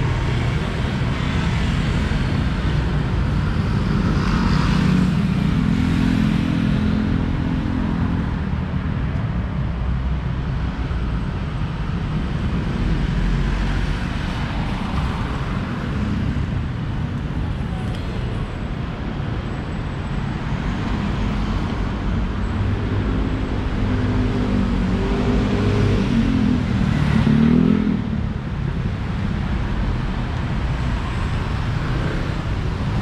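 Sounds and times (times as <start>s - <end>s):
traffic passing on street: 0.0s - 33.0s.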